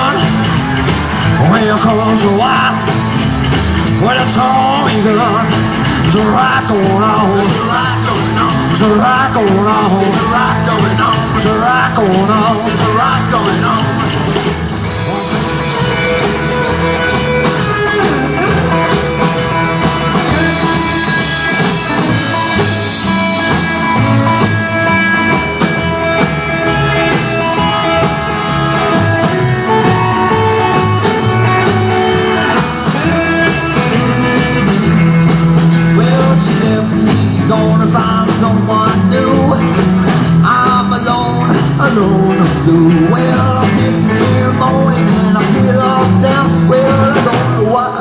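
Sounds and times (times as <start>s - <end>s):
person singing: 0.0s - 48.0s
rockabilly band playing: 0.0s - 48.0s.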